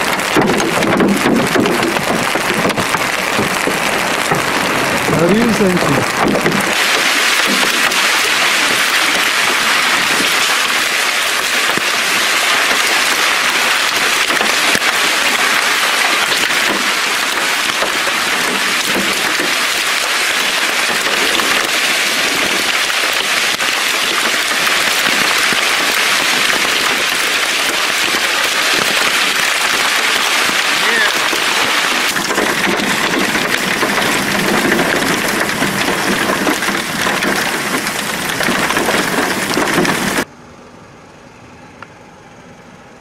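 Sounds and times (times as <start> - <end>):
hailstones clattering: 0.0 - 40.3.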